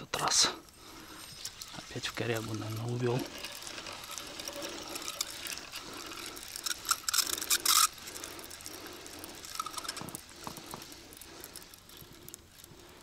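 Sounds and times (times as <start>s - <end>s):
fishing reel clicking: 1.0s - 12.7s.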